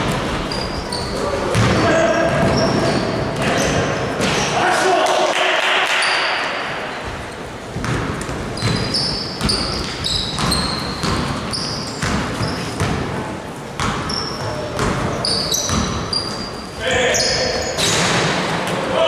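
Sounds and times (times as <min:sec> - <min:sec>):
basketballs bouncing on gym floor: 0:00.0 - 0:04.5, 0:07.0 - 0:18.4
sneakers squeaking on court: 0:00.0 - 0:04.5, 0:06.0 - 0:18.0.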